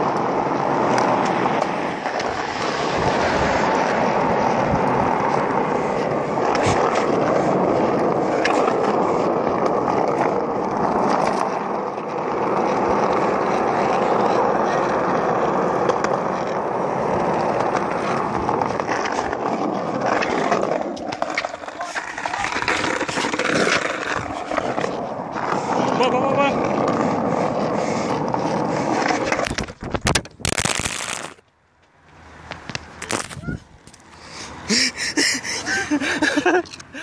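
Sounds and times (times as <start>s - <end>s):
skateboard clicks: 0.0s - 34.2s, 35.8s - 37.0s
skateboard wheels on asphalt: 0.0s - 37.0s.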